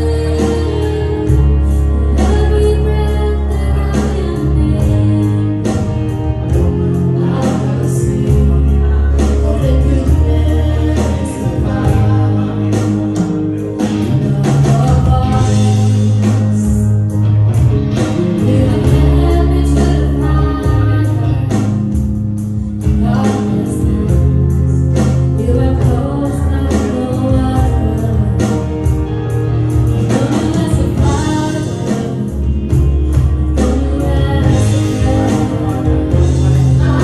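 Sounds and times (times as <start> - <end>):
woman singing gospel song: 0.0 - 16.8, 18.3 - 21.8, 22.8 - 24.7, 25.4 - 29.0, 29.9 - 37.0
acoustic and electric guitars: 0.0 - 37.0
deep sustained bass notes: 0.0 - 37.0
keyboard: 0.0 - 37.0.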